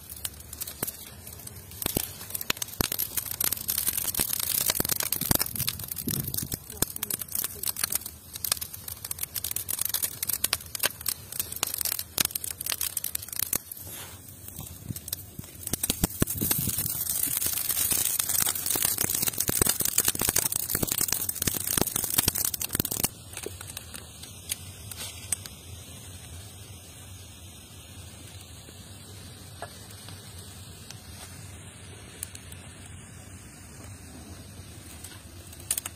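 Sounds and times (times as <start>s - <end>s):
steady rushing hiss: 0.0s - 35.9s
wood fire crackling and popping: 0.0s - 35.9s.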